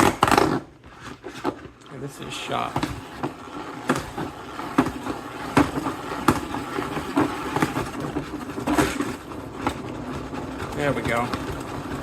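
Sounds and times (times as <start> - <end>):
salad spinner whirring: 1.8 - 12.0
plastic bricks rattling in a bowl: 1.9 - 12.0.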